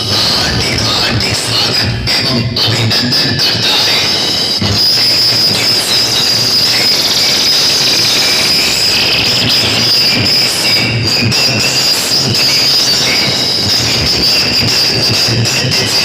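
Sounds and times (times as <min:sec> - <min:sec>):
dense noisy wash: 0:00.0 - 0:15.3
high-pitched loudspeaker screech: 0:00.0 - 0:16.0.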